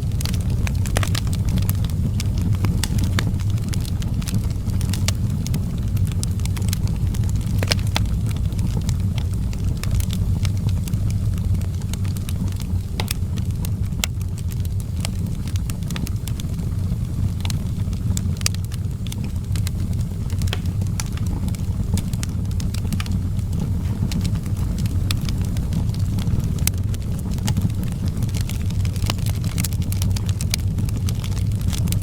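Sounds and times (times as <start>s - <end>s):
fire crackles and pops: 0.0s - 32.0s
low rumble of flames: 0.0s - 32.0s.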